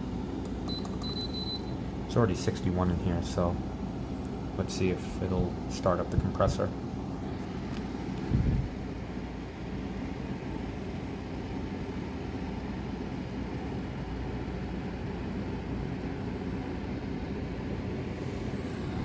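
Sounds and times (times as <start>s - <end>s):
window air conditioner running: 0.0s - 19.0s.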